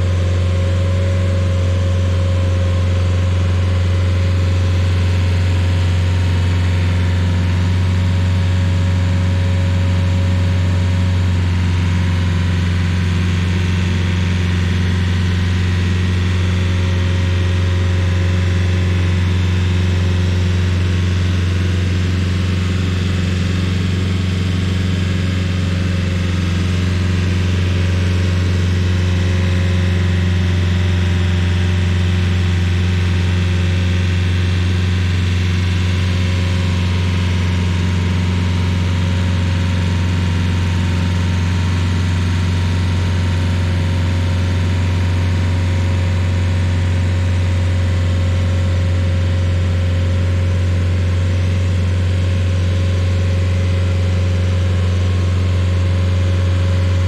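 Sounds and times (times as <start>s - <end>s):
stump grinder engine droning: 0.0s - 57.0s.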